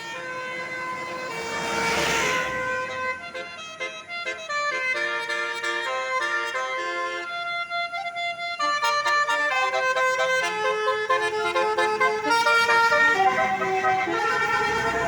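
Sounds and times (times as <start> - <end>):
musical air horn playing tune: 0.0 - 15.0.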